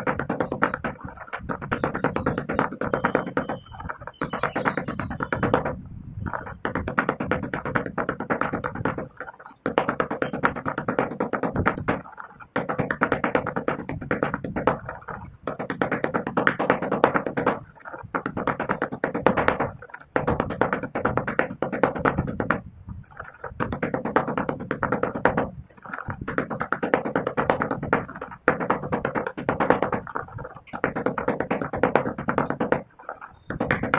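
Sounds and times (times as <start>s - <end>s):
pestle grinding in stone mortar: 0.0s - 33.9s.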